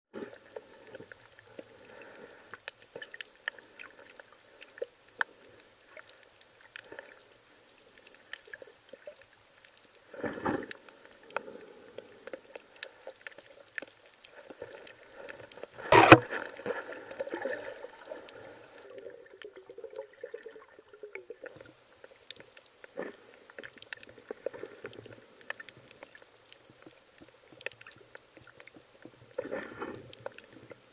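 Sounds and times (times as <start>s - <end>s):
underwater clicks and crackles: 0.2s - 30.9s.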